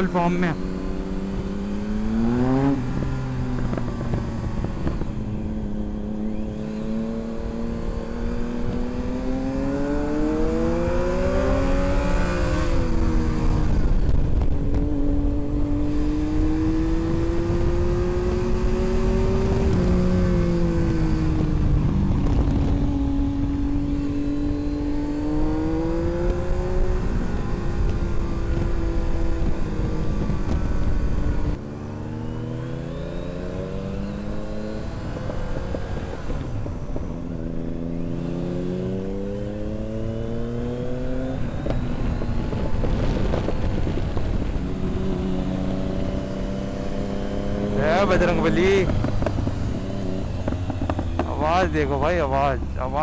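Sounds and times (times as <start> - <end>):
motorcycle engine running: 0.0 - 32.3, 33.2 - 53.0
wind on microphone: 0.6 - 31.6, 32.3 - 53.0.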